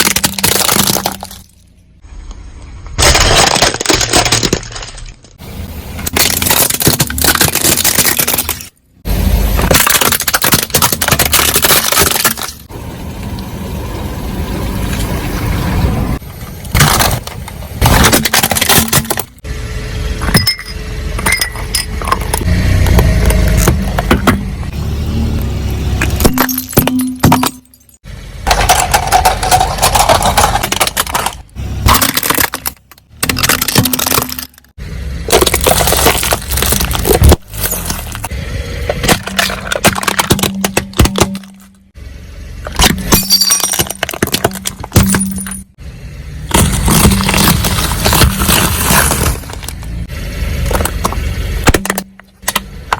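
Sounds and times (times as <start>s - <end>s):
objects crushed under car tyres: 0.0s - 2.0s, 2.8s - 12.7s, 16.2s - 19.5s, 20.2s - 24.7s, 26.0s - 42.0s, 42.6s - 45.8s, 46.4s - 52.9s.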